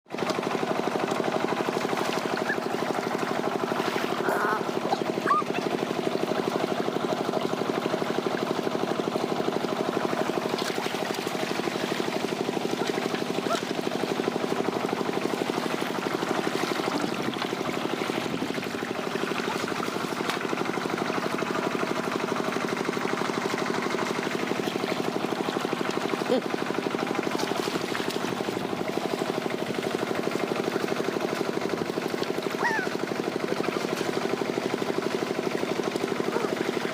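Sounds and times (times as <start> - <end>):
small engine chugging: 0.1 - 36.9.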